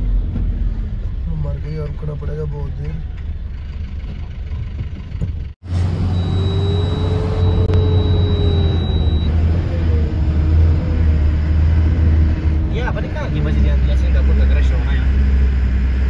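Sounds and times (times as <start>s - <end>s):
road noise: 0.0s - 16.0s
traffic noise: 0.0s - 16.0s
truck engine rumble: 0.0s - 16.0s.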